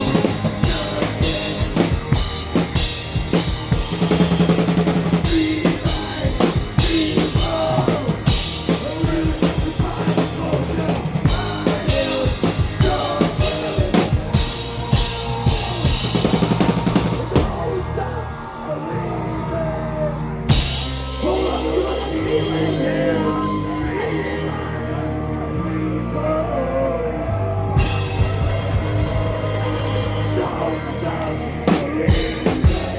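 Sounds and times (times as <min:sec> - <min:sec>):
person singing: 0:00.0 - 0:02.8, 0:04.4 - 0:32.9
punk rock band playing: 0:00.0 - 0:32.9.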